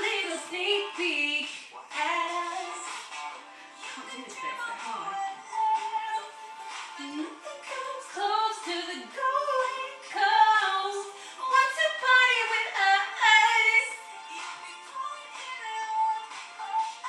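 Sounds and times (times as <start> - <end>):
woman singing pop melody: 0.0 - 17.0.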